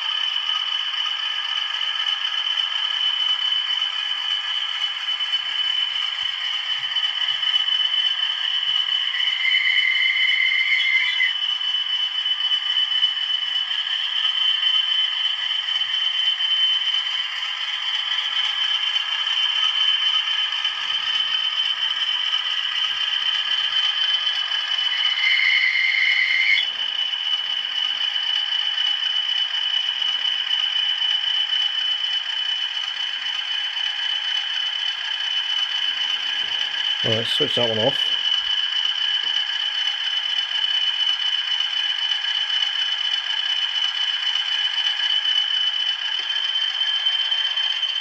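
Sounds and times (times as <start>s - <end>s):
tinny diesel engine sound from speaker: 0.0s - 48.0s.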